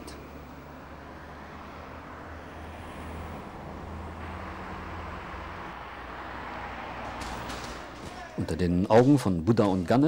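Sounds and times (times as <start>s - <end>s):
vehicle passing: 0.0s - 8.7s
road traffic rumble: 0.0s - 10.0s.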